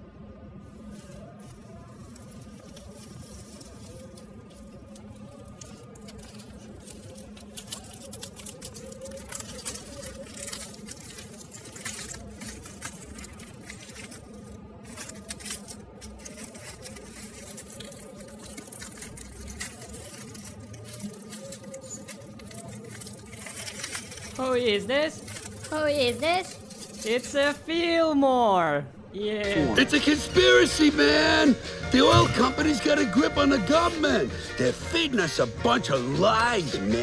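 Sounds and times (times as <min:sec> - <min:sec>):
aluminium foil crinkling: 0:00.1 - 0:28.4, 0:29.4 - 0:37.0
branches and tinsel rustling: 0:00.3 - 0:37.0.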